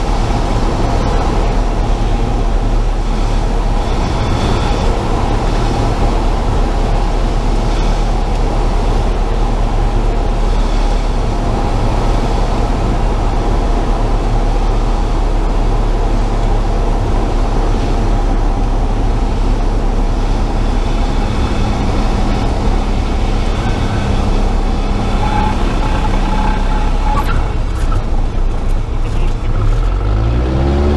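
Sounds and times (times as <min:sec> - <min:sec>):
rush of air: 0:00.0 - 0:29.0
airplane piston engine drone: 0:00.0 - 0:29.6
low hum: 0:00.0 - 0:29.8.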